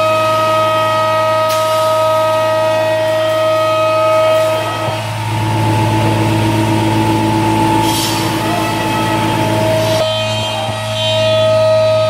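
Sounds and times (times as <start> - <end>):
cnc router spindle whining: 0.0 - 12.0
low steady hum: 1.7 - 11.6.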